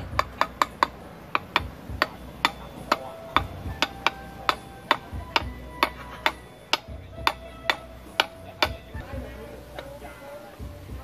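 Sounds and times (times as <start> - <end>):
hatchet knocking on metal cover: 0.0 - 10.0.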